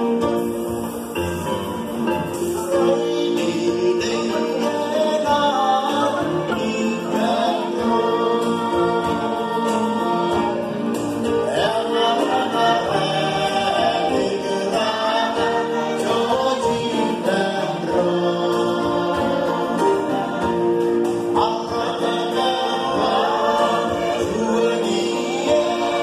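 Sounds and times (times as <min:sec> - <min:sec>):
choir singing a hymn: 0:02.4 - 0:26.0.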